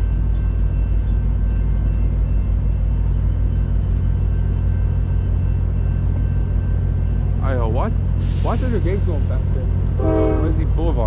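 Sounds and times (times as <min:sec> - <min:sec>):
train passing rumble: 0:00.0 - 0:11.0.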